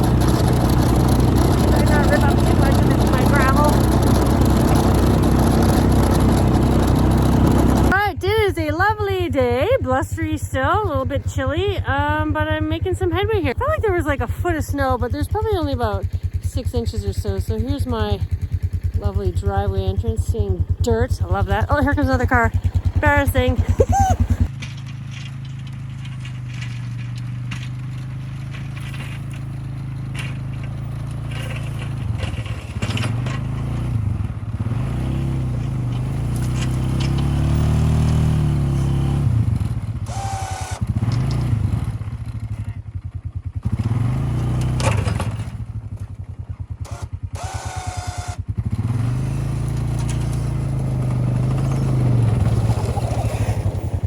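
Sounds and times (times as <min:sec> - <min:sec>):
snowplow engine revving: 0:00.0 - 0:43.0, 0:43.6 - 0:46.0, 0:46.7 - 0:54.0
plow blade pushing snow: 0:00.0 - 0:54.0.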